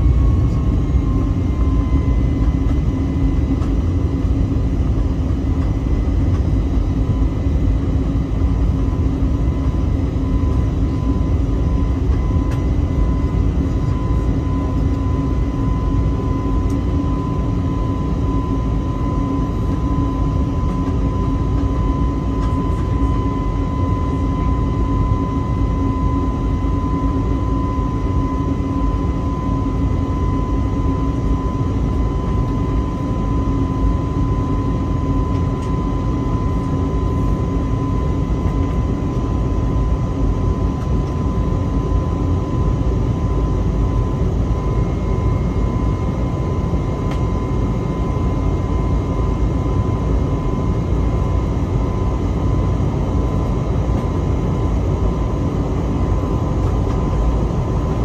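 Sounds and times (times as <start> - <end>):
jet engine drone: 0.0 - 58.0.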